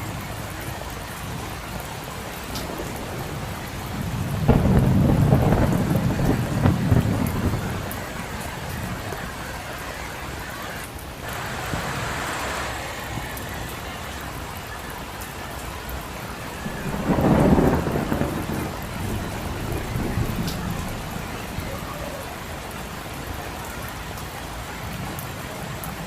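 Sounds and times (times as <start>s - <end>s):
rain falling on a street: 0.0s - 26.0s.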